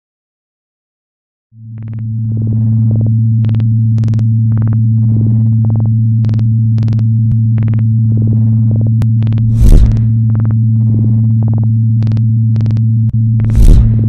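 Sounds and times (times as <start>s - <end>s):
low synthesized hum: 1.6s - 14.0s
computer-like beeps and blips: 1.8s - 14.0s.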